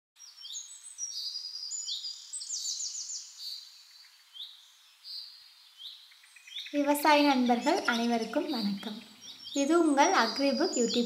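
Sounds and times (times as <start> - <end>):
birds chirping and whistling: 0.2 - 11.0.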